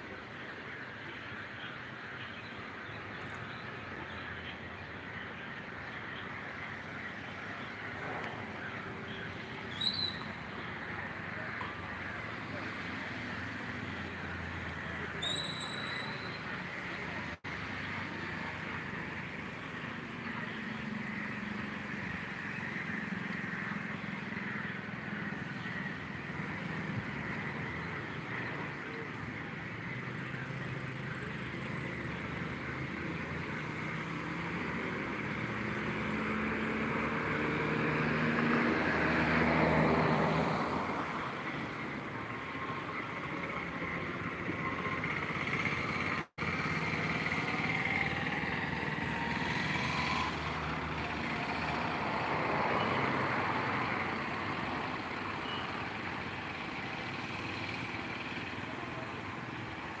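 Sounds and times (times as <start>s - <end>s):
background traffic: 0.0s - 60.0s
vehicle engine passing: 7.4s - 60.0s.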